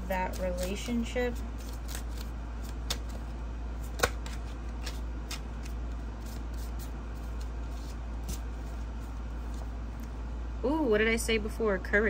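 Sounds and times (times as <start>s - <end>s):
cards being shuffled: 0.0s - 9.7s
steady low hum: 0.0s - 12.0s.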